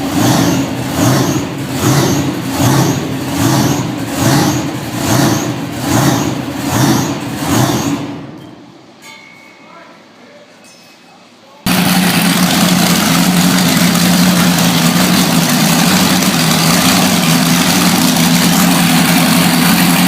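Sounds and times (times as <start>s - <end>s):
monster truck engine revving: 0.0s - 8.4s, 11.7s - 20.0s.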